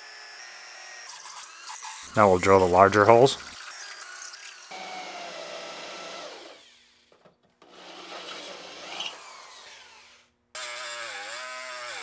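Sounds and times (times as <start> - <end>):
electric drill drilling steel: 0.0 - 2.8, 3.4 - 12.0
grinder running: 0.0 - 12.0.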